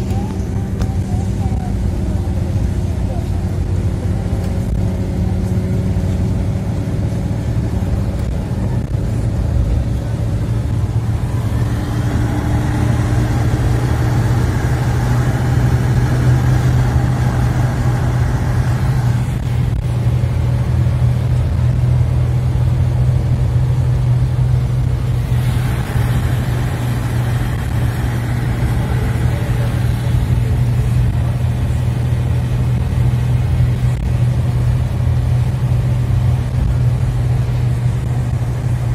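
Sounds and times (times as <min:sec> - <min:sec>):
car engine and tyre drone: 0:00.0 - 0:38.9.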